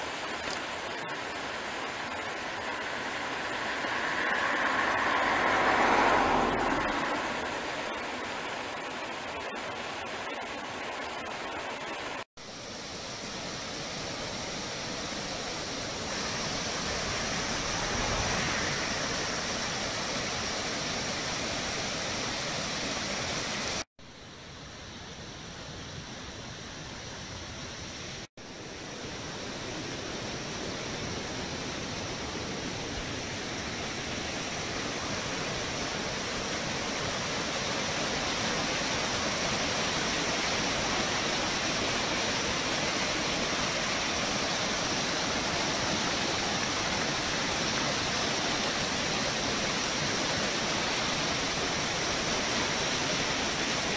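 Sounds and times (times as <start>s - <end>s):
rushing white water: 0.0s - 53.9s.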